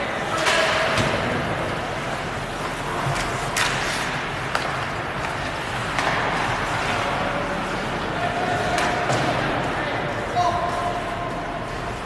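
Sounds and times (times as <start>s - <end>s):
arena noise: 0.0s - 12.0s
hockey sticks and puck clacking: 0.1s - 12.0s.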